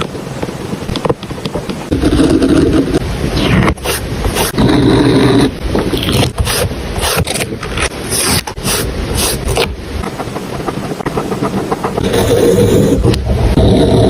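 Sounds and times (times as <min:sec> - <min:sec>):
scratchy rubbing and peeling: 0:01.9 - 0:14.0.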